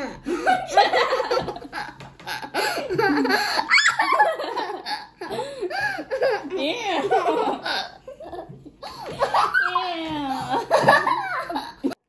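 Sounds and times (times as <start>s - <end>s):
young children laughing: 0.1s - 12.0s.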